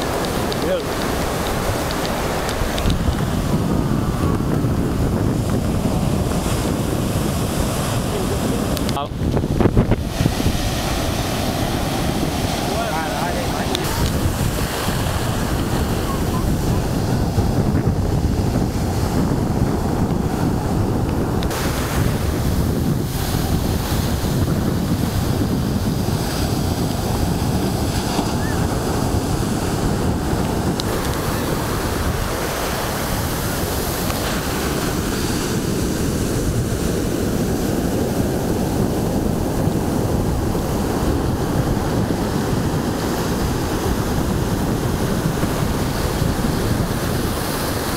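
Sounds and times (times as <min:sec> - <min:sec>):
ocean surf breaking: 0:00.0 - 0:47.9
wind buffeting microphone: 0:00.0 - 0:47.9.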